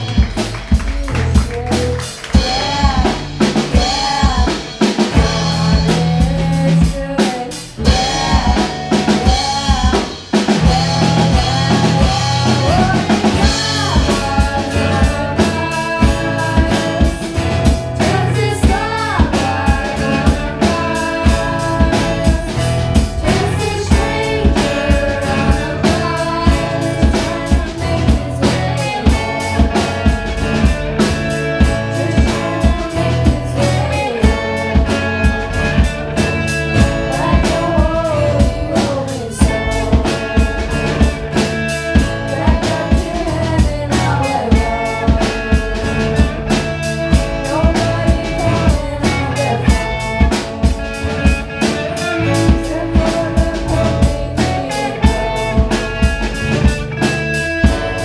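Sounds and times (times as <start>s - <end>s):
drum kit beat: 0.0s - 58.0s
electric guitars and bass: 0.0s - 58.0s
person singing: 0.0s - 58.0s.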